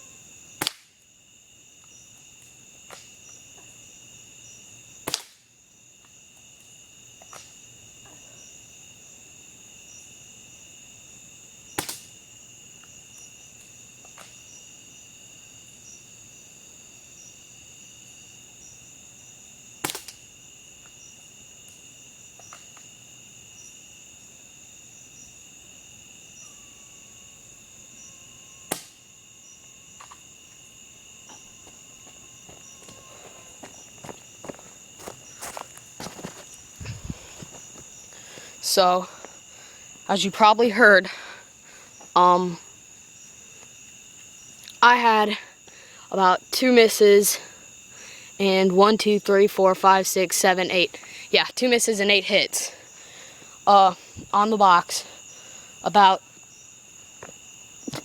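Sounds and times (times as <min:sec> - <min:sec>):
night insects chirping: 0:00.0 - 0:58.0.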